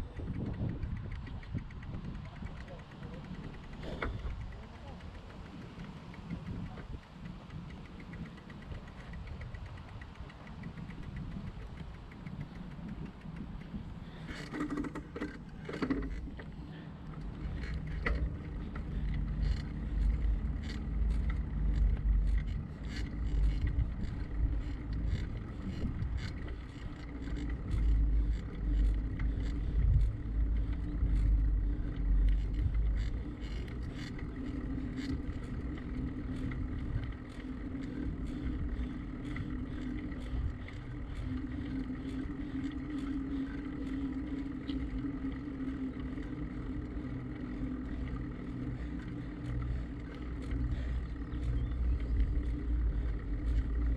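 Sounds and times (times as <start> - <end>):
road rumble: 0.0 - 53.9
small clicks and rattles: 0.0 - 53.9
wind buffeting microphone: 0.0 - 53.9.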